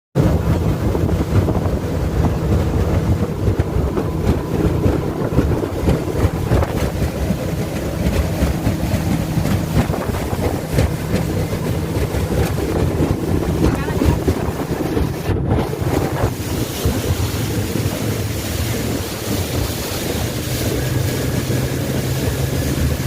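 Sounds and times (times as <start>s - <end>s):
boat engine running: 0.2s - 23.0s
wind buffeting microphone: 0.2s - 23.0s.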